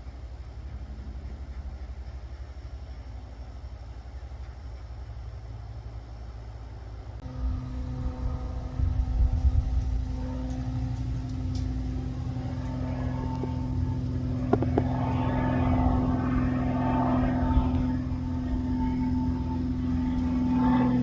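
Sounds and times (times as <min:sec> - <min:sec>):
aircraft engine droning: 0:00.0 - 0:21.0.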